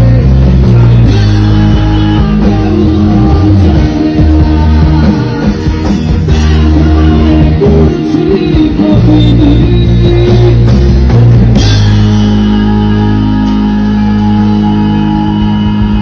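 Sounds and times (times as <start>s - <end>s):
bass notes: 0.0s - 16.0s
electric guitars: 0.0s - 16.0s
live rock band playing: 0.0s - 16.0s.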